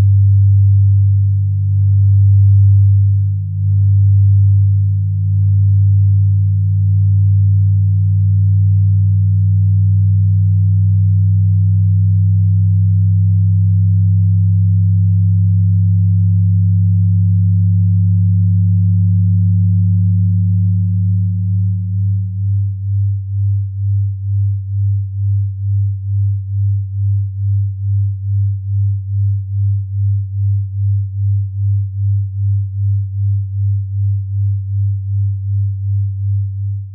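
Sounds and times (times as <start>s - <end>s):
higher electronic sine tone: 0.0s - 36.9s
low electronic hum throbbing: 0.0s - 36.9s.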